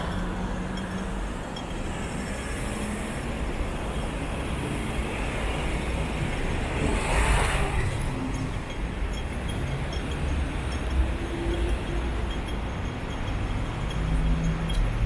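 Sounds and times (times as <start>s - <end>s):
road traffic rumbling: 0.0s - 15.0s.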